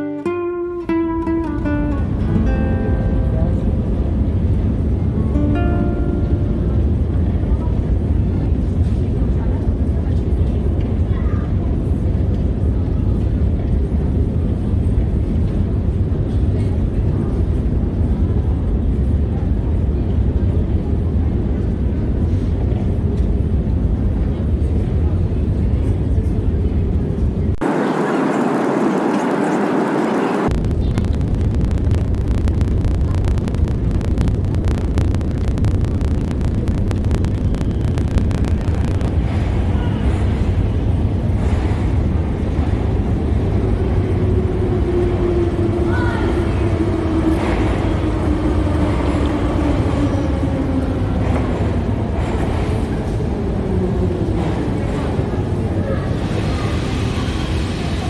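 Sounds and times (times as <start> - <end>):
escalator low rumble: 0.0 - 58.0.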